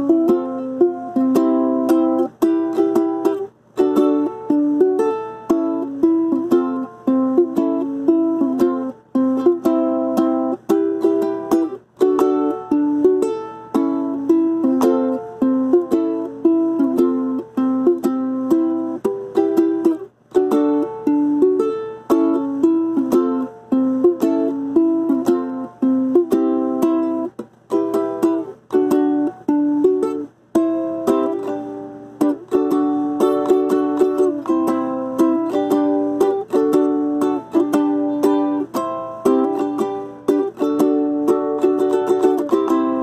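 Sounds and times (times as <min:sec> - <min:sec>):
ukulele strumming: 0:00.0 - 0:43.0.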